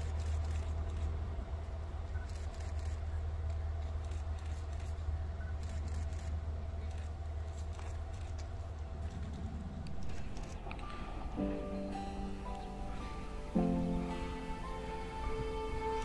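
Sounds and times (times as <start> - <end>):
faint steady hum: 0.0 - 16.0
train rumbling: 0.0 - 16.0.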